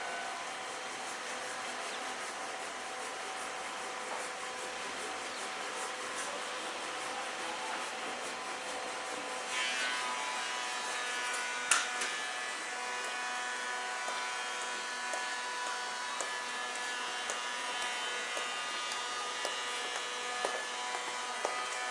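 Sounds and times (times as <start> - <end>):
electric train hum and whine: 0.0 - 21.9.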